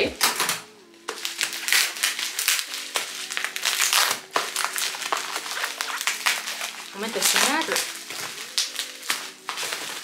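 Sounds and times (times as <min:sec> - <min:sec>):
quiet background music: 0:00.0 - 0:10.0
bubble wrap crinkling: 0:00.9 - 0:10.0.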